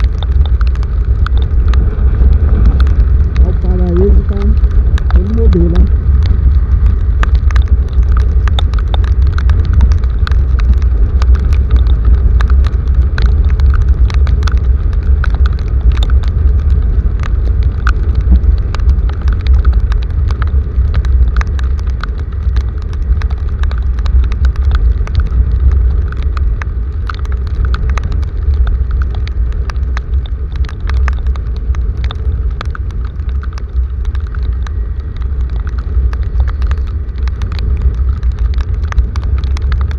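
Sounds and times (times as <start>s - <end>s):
deep rumble: 0.0s - 39.9s
heavy rain: 0.0s - 39.9s
raindrops hitting near microphone: 0.0s - 39.9s.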